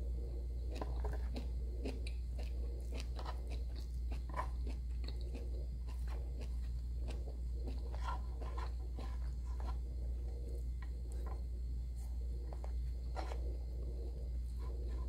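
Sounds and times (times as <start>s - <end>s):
soft chewing: 0.0s - 15.0s
steady low hum: 0.0s - 15.0s.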